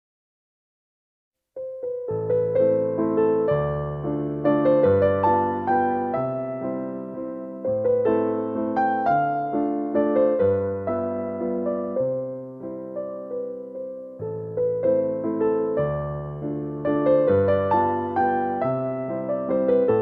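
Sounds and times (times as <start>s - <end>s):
slow gentle piano music: 1.6s - 20.0s.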